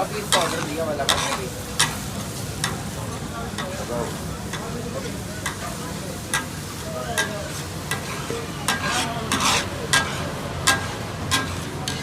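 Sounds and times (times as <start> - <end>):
food sizzling on a griddle: 0.0 - 12.0
metal spatulas clacking on griddle: 0.2 - 2.9, 3.5 - 4.8, 5.4 - 12.0.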